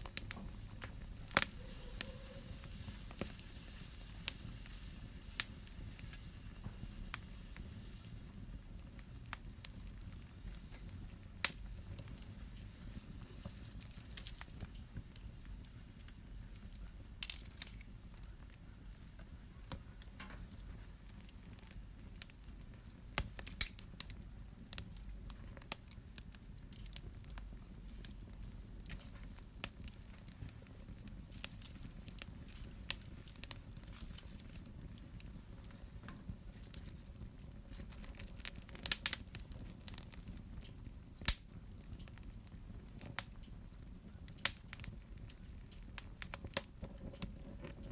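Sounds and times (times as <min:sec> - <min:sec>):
fire flames rumbling: 0:00.0 - 0:47.9
wood fire crackling and popping: 0:00.0 - 0:47.9.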